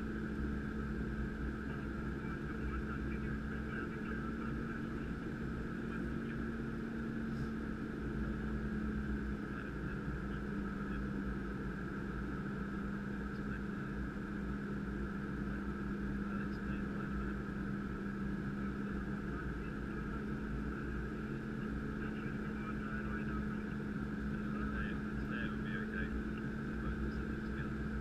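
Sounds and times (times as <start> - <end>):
jet cabin rush and hum: 0.0 - 28.0.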